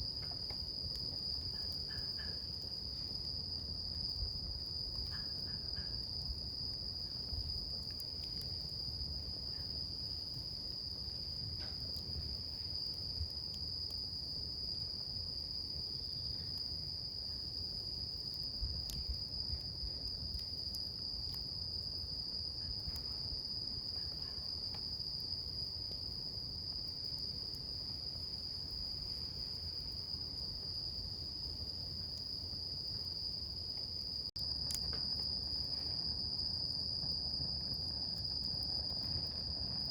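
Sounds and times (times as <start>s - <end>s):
burning wood crackling: 0.0s - 39.9s
campfire hiss and rumble: 0.0s - 39.9s
crickets trilling: 0.0s - 39.9s.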